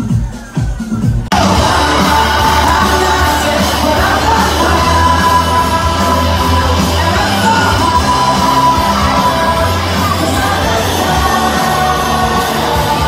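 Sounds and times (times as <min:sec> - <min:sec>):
loud music with singing: 0:00.0 - 0:13.0
heavy bass line: 0:01.2 - 0:13.0.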